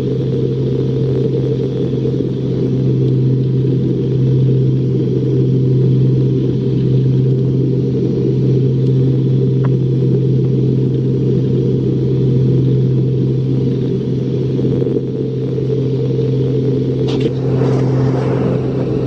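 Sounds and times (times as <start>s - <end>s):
propeller aircraft engine droning: 0.0s - 19.0s
steady low hum: 0.0s - 19.0s.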